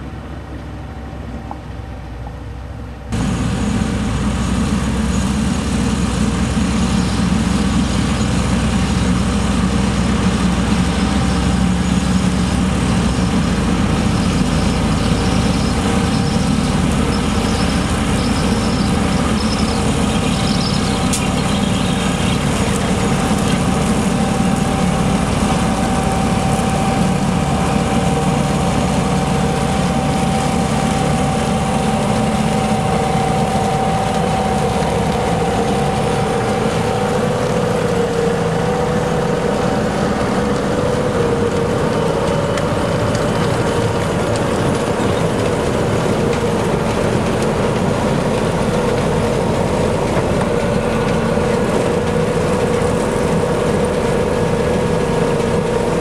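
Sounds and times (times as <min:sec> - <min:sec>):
steady whining tone: 0:00.0 - 0:56.0
tractor engines running: 0:00.0 - 0:56.0.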